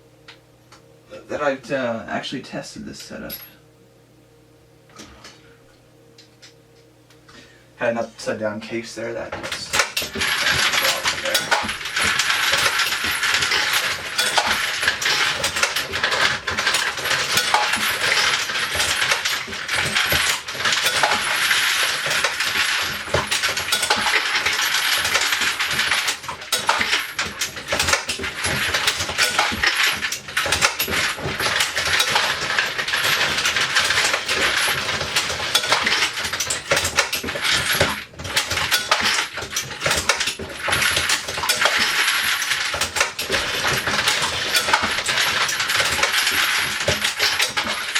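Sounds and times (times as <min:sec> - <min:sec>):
metallic clatter of bullets tumbling: 0:09.2 - 0:47.9.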